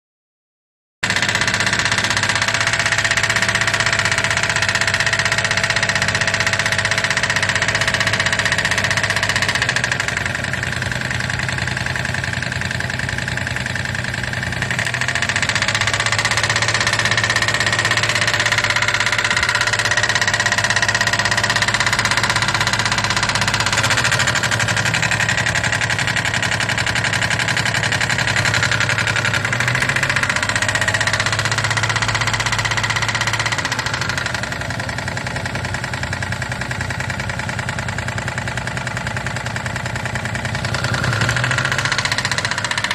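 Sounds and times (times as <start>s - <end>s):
engine idling with rattling knock: 1.0s - 42.9s.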